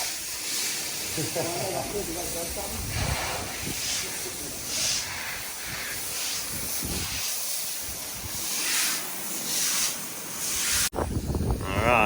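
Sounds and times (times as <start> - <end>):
water spraying from hoses: 0.0 - 12.0.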